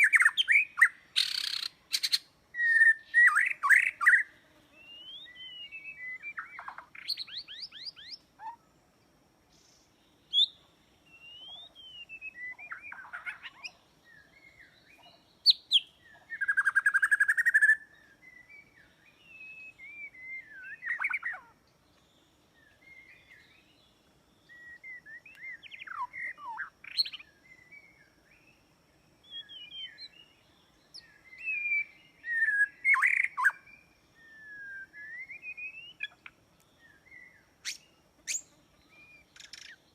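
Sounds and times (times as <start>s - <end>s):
bird whistled song: 0.0s - 8.6s, 9.5s - 28.6s, 29.2s - 39.9s.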